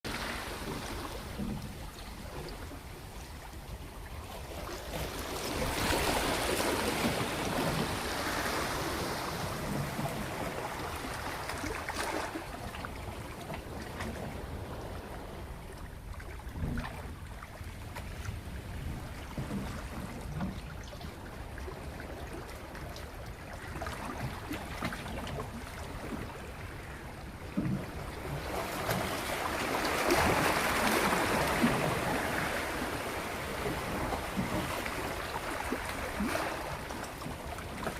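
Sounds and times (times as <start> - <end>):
sea water lapping: 0.0 - 37.9.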